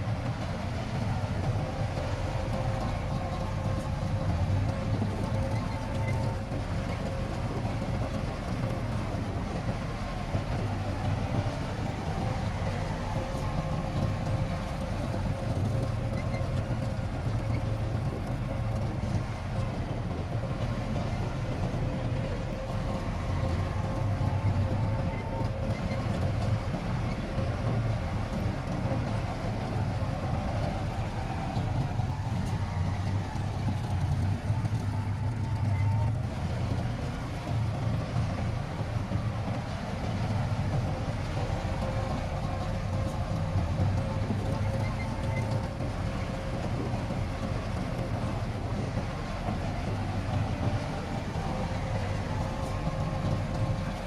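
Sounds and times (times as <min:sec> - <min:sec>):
diesel engine droning: 0:00.0 - 0:54.0
faint constant whine: 0:00.0 - 0:54.0.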